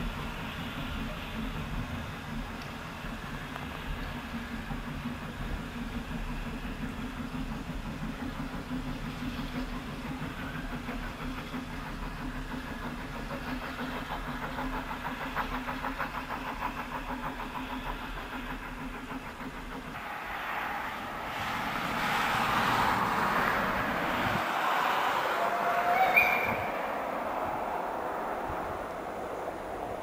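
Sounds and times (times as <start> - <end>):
steam locomotive chuffing: 0.0 - 30.0.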